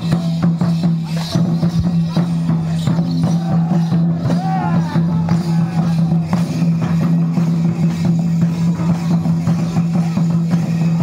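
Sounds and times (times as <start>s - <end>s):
hand drums beating: 0.0s - 11.0s.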